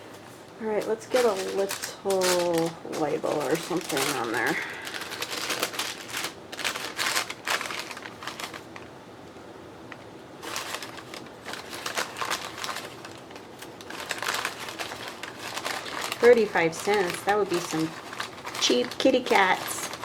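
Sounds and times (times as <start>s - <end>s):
paper rustling and shuffling: 0.0s - 8.9s, 9.9s - 20.0s.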